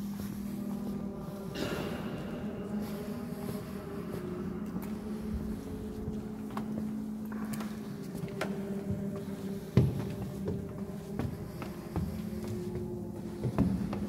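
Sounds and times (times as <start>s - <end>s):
footsteps on stone and wood: 0.0s - 14.0s
steady low hum: 0.0s - 14.0s.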